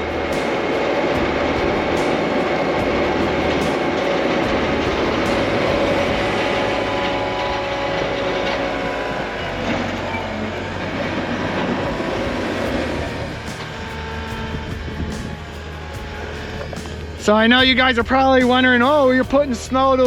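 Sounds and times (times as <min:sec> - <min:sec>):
machine rattling: 0:00.0 - 0:19.1
diesel engine under load: 0:00.0 - 0:20.0.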